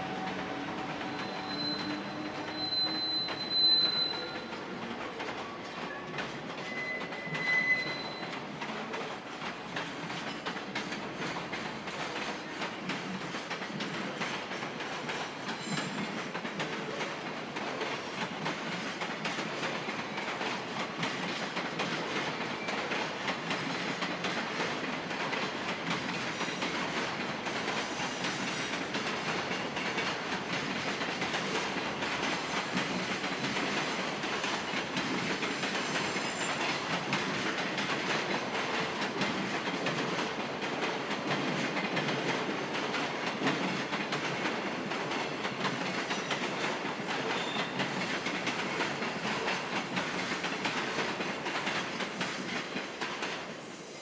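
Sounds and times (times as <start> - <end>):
train wheels clattering over rails: 0.0 - 53.7.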